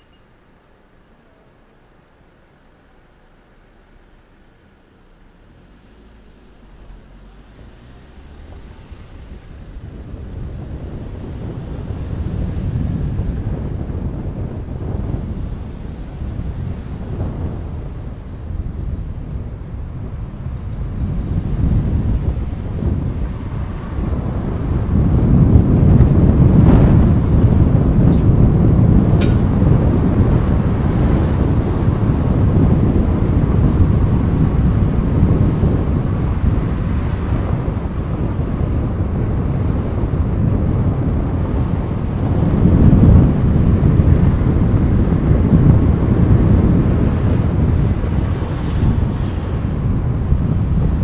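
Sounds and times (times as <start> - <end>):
road and wind rumble: 0.0 - 51.0
wind buffeting microphone: 5.4 - 51.0.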